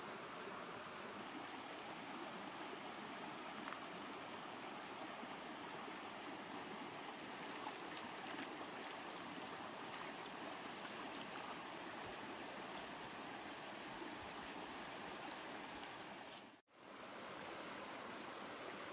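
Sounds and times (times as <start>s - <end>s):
stream rushing over stones: 0.0s - 18.9s.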